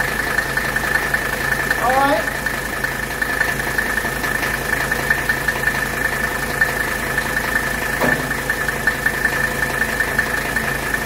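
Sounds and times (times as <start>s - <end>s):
diesel engine idling with clatter: 0.0s - 11.0s.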